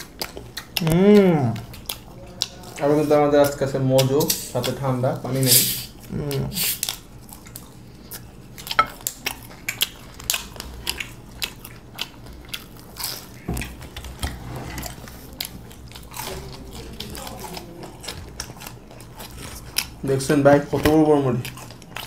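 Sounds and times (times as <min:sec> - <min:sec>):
people chewing crispy fried chicken: 0:00.0 - 0:22.0.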